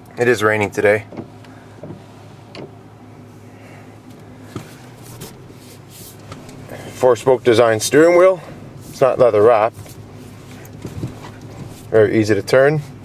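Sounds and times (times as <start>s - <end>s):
pickup engine idling inside cab: 0.0s - 13.0s.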